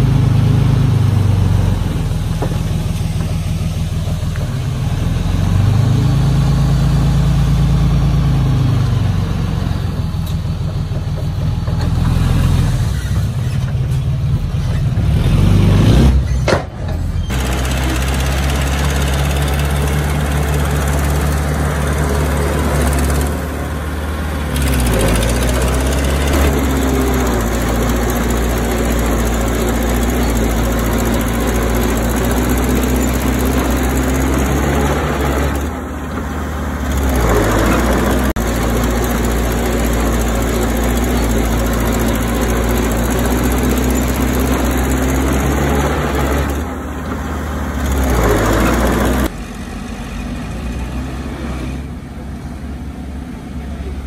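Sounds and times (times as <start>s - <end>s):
heavy diesel engine rattling: 0.0s - 49.9s.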